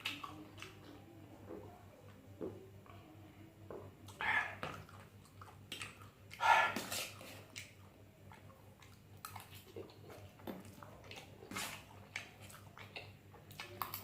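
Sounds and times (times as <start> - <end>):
chewing and wet mouth noises: 0.0 - 2.2, 3.7 - 14.0.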